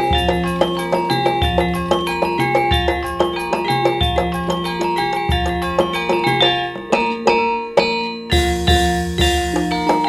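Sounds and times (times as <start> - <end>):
metallophones ringing notes: 0.0 - 10.0.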